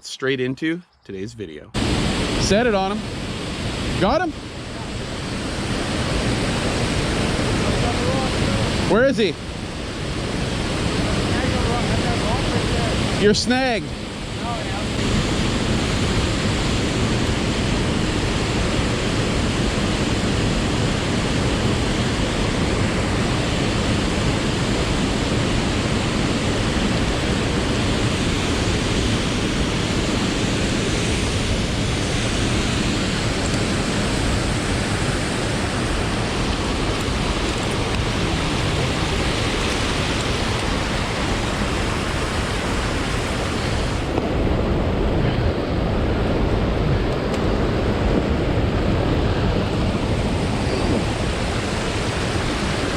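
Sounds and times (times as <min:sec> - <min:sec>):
river water rushing below waterfall: 0:01.8 - 0:44.5, 0:47.0 - 0:52.9.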